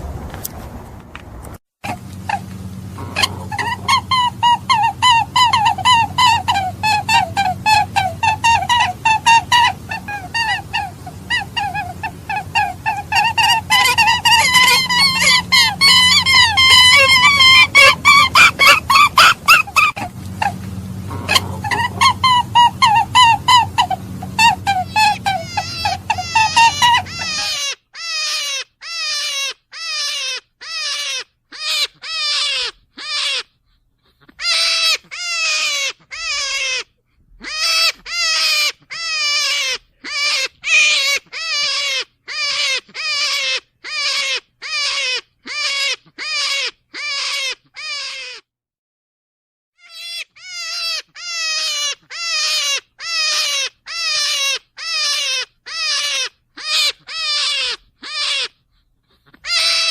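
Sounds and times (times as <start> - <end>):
rabbit squealing: 1.8 - 48.5, 49.8 - 59.9.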